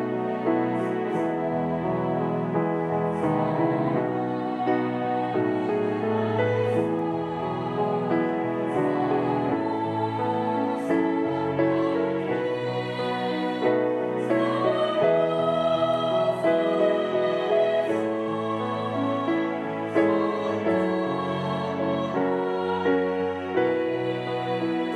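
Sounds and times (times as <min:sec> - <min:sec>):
piano accompaniment: 0:00.0 - 0:24.9
women's choir singing a hymn: 0:00.0 - 0:24.9.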